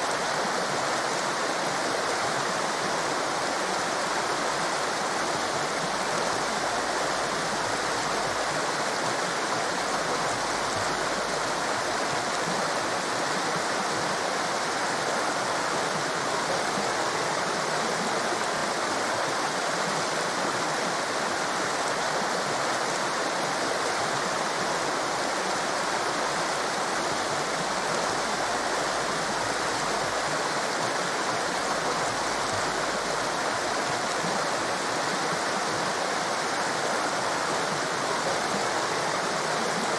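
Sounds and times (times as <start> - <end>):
rushing white water: 0.0 - 39.9.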